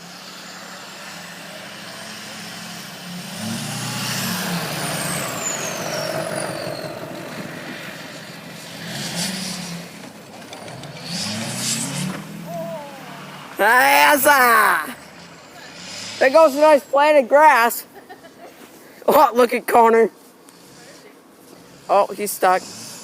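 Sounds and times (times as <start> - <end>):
truck engine revving: 0.0 - 17.0, 21.6 - 23.0.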